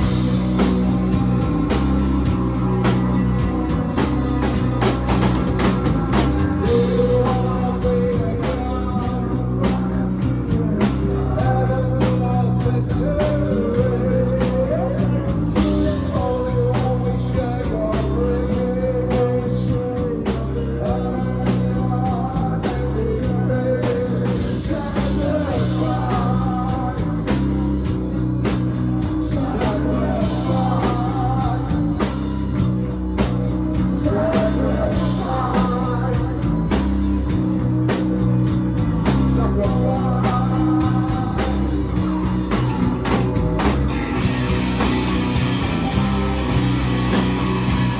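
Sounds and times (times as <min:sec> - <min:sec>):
live rock band playing: 0:00.0 - 0:47.9.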